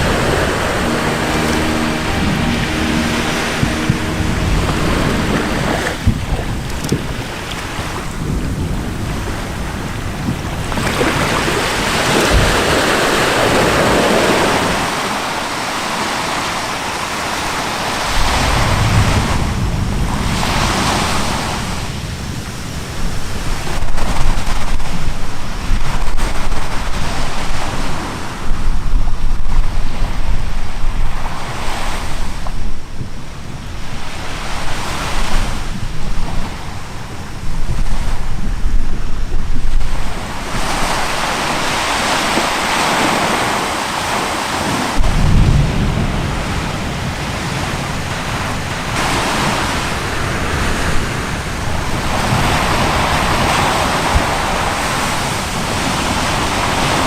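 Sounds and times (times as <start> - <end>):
sea waves: 0.0 - 57.0
wind buffeting microphone: 0.0 - 57.0.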